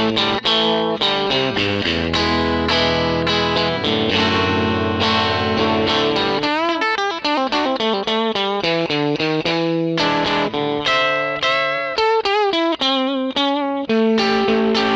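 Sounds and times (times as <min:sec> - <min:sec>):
electric guitar ringing chords: 0:00.0 - 0:14.9
picked single guitar notes: 0:00.0 - 0:14.9.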